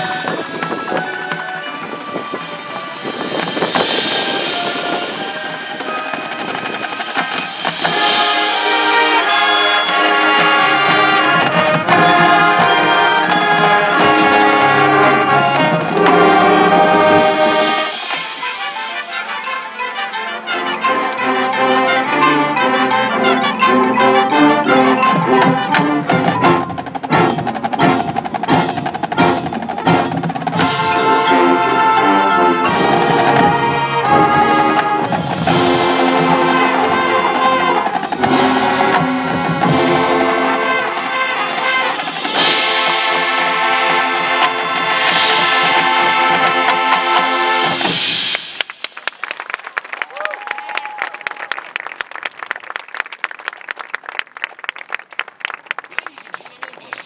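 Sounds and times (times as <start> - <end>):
marching band brass chords: 0.0 - 49.5.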